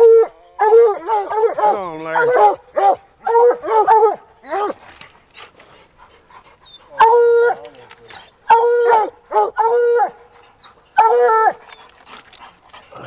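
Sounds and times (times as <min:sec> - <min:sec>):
hound baying: 0:00.0 - 0:13.0.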